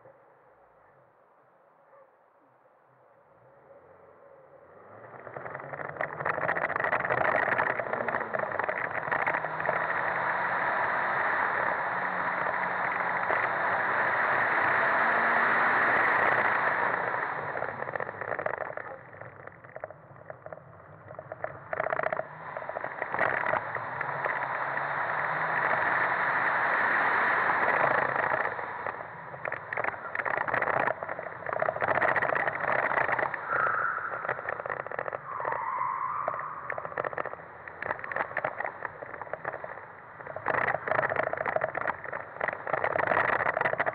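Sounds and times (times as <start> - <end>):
wind and road noise: 0.0 - 43.9
car engine accelerating: 3.5 - 43.9.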